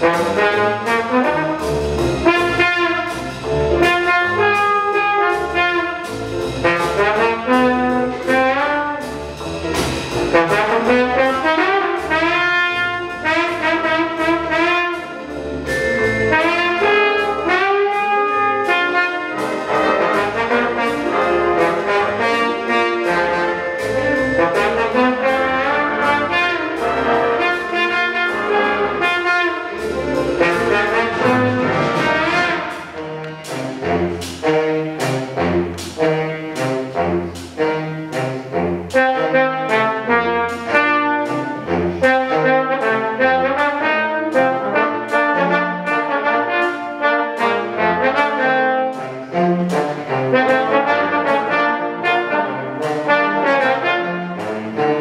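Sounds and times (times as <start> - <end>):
jazz big band playing: 0.0 - 55.0.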